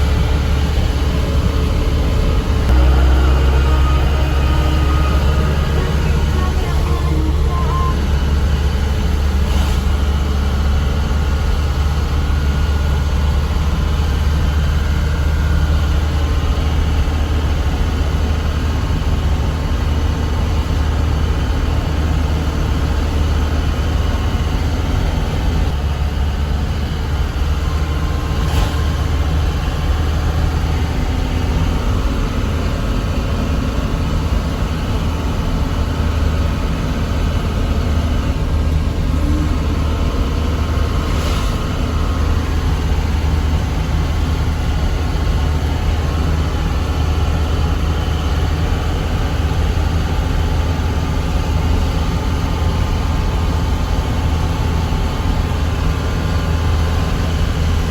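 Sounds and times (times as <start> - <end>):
truck diesel engine droning: 0.0 - 57.9.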